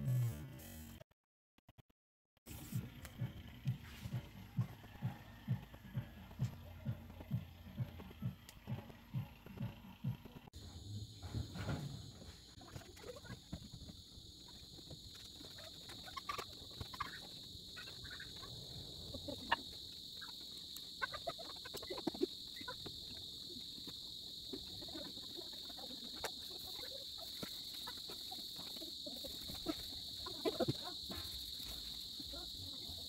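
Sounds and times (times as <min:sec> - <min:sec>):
insects chirring: 0:04.2 - 0:33.0.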